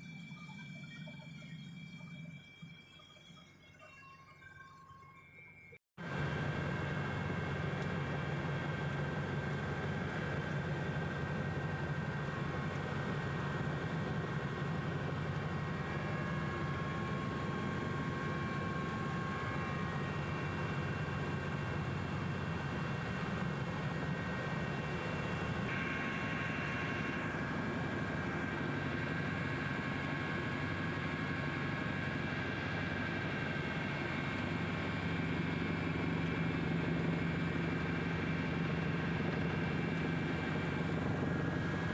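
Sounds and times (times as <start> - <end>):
helicopter drone: 0.0 - 41.9.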